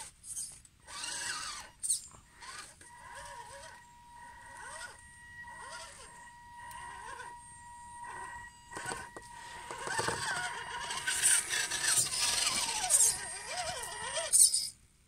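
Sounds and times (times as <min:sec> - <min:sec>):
small electric motor whining: 0:00.0 - 0:14.7.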